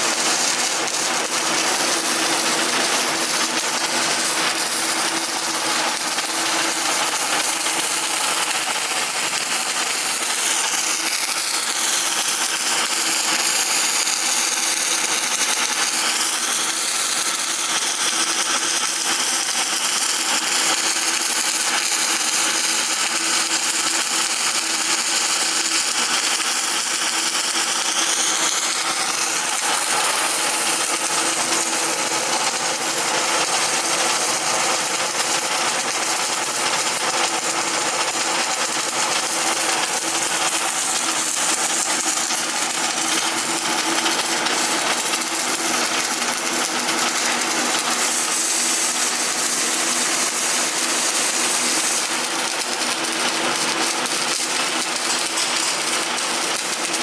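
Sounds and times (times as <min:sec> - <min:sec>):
arc welding crackling hiss: 0:00.0 - 0:57.0.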